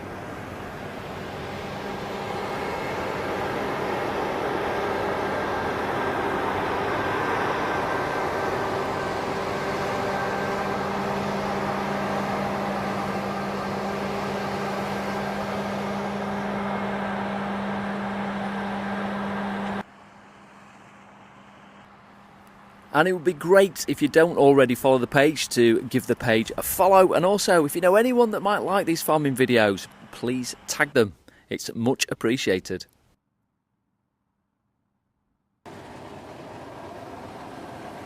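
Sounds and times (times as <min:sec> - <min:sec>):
combine harvester running: 0:00.0 - 0:31.1, 0:35.7 - 0:38.0.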